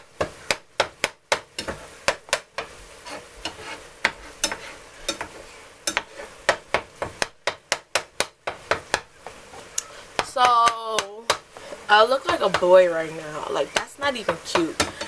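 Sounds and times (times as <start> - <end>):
utensil knocking in frying pan: 0.0 - 2.8, 3.4 - 9.4, 10.2 - 11.6, 12.2 - 12.8, 13.7 - 15.0
meat sizzling: 0.0 - 15.0.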